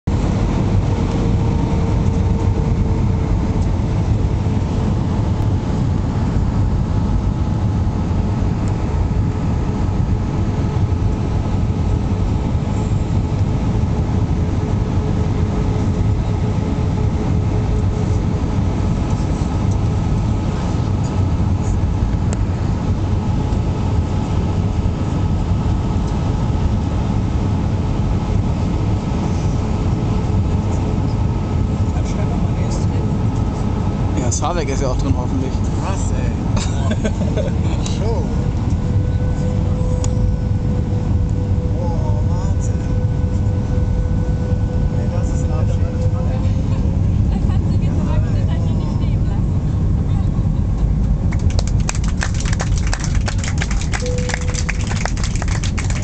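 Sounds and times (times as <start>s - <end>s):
faint engine whine: 0.0s - 56.0s
jet engine and airflow roar: 0.0s - 56.0s.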